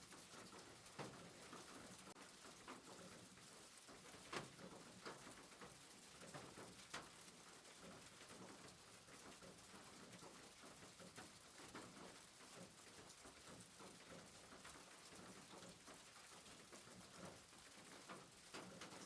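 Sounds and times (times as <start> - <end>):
rain on a rooftop: 0.0 - 19.0.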